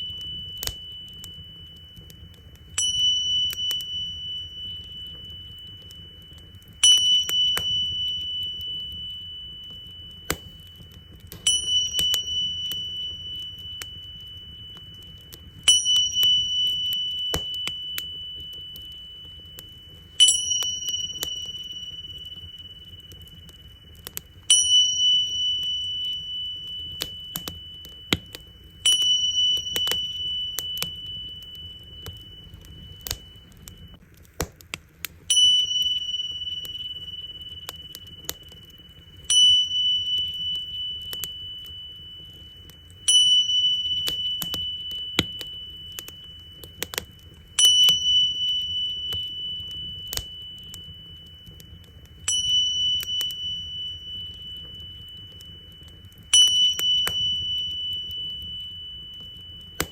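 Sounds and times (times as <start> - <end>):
small cymbals ringing: 0.0 - 34.0, 35.2 - 59.9
wood fire crackling: 0.0 - 59.9.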